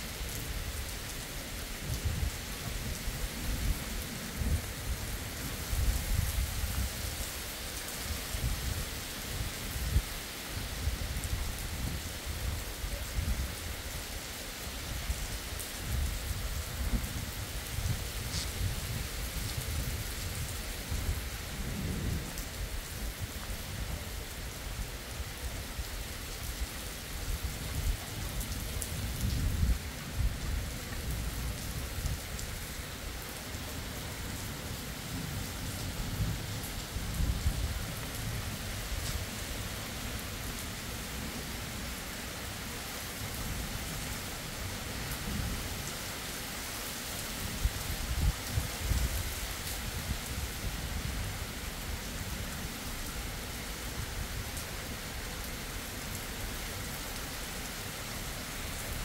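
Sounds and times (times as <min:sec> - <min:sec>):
rain falling on road: 0:00.0 - 0:59.0.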